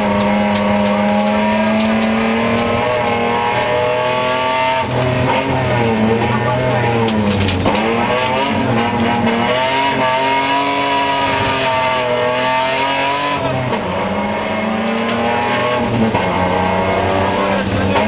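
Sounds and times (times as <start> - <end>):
rally car engine from cabin: 0.0 - 18.0.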